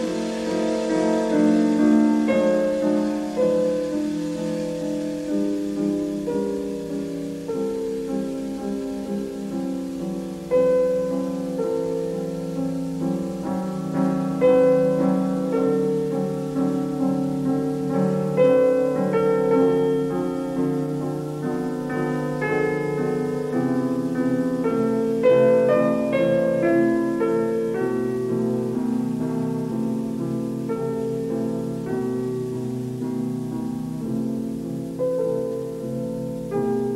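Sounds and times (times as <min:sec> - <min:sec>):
slow piano music: 0:00.0 - 0:36.9.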